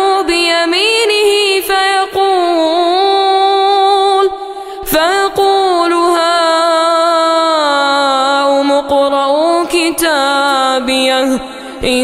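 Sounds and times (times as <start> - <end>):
person chanting recitation: 0.0 - 12.0.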